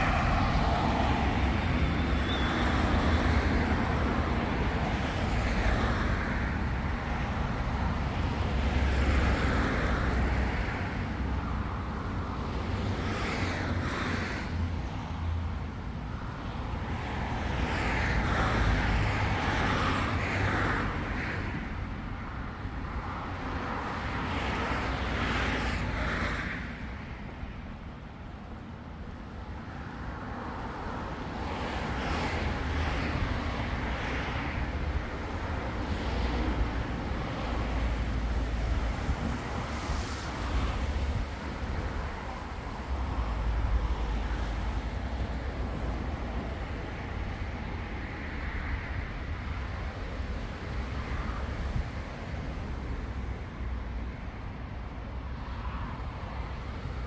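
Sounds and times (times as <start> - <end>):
cars passing: 0.0 - 57.0
low traffic rumble: 0.0 - 57.0.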